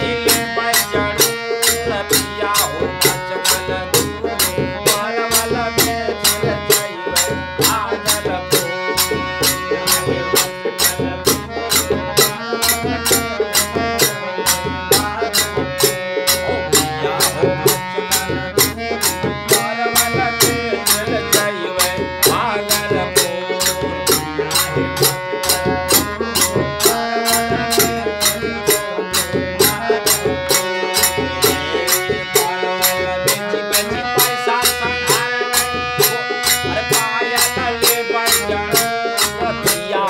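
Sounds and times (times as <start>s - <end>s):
dholak drum beat: 0.0s - 40.0s
harmonium: 0.0s - 40.0s
men singing: 0.0s - 40.0s.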